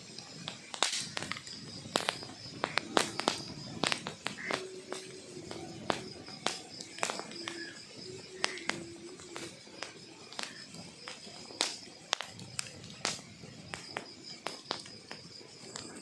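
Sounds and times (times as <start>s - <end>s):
wood fire crackling: 0.0s - 16.0s
faint whistles: 1.4s - 16.0s.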